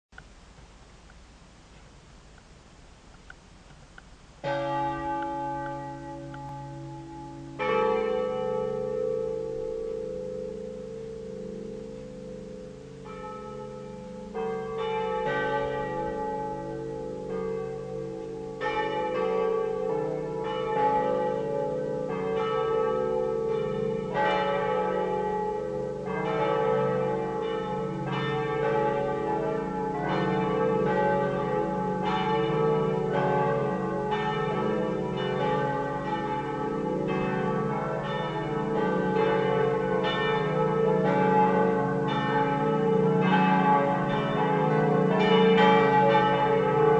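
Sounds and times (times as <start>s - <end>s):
church bells ringing: 4.4s - 46.9s.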